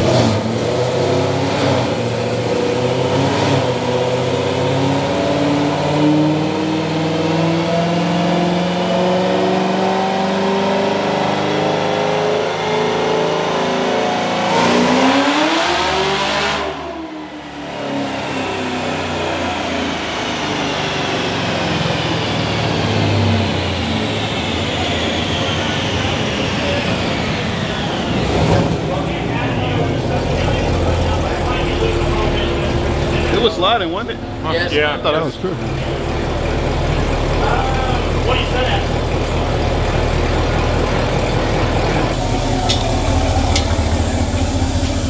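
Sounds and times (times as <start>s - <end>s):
car engine revving on a dyno: 0.0s - 45.0s.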